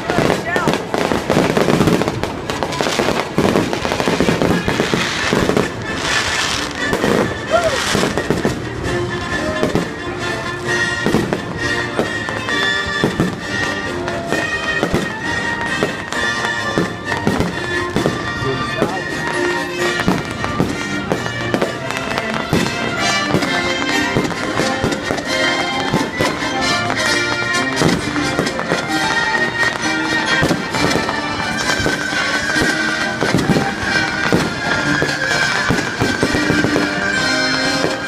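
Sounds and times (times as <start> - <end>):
fireworks bangs: 0.0 - 38.0
loud music: 0.0 - 38.0.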